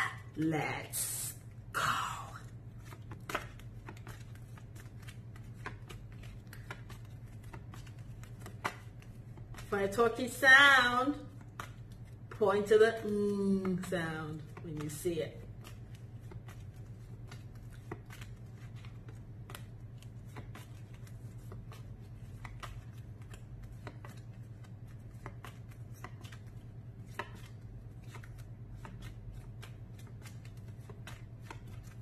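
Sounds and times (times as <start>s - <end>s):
paper flashcards clicking and rustling: 2.4s - 32.0s.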